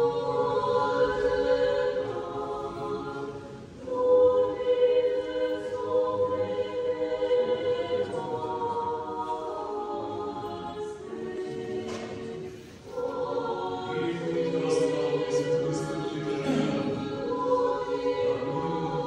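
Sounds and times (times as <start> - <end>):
choir chanting a cappella: 0.0 - 19.0.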